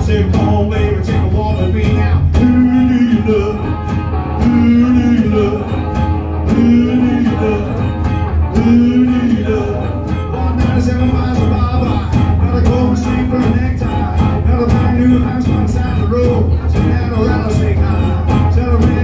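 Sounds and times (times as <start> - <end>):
drums: 0.0 - 19.0
electric guitar: 0.0 - 19.0
man singing: 0.0 - 19.0
rock band playing: 0.0 - 19.0.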